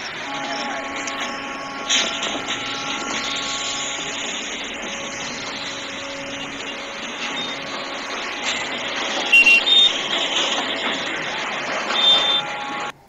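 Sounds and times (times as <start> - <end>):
moving train rushing: 0.0 - 13.0.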